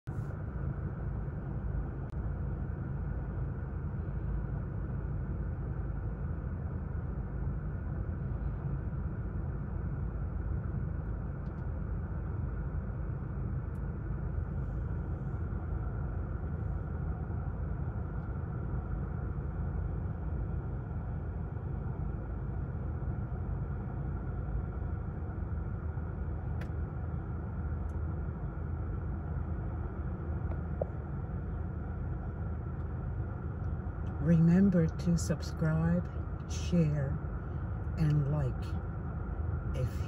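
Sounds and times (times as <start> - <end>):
car cabin low rumble: 0.0 - 40.0.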